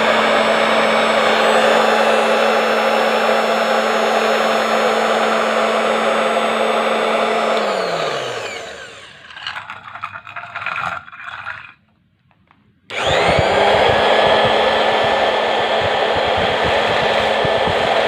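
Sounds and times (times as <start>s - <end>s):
cutting machine motor whine: 0.0s - 9.5s, 12.9s - 18.0s.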